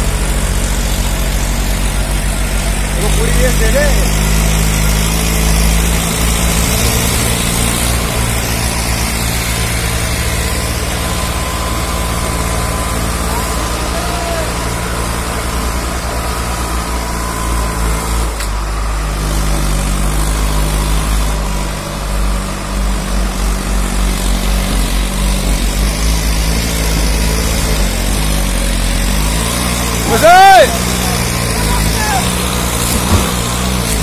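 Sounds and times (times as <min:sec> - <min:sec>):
diesel tractor engines running hard: 0:00.0 - 0:34.0.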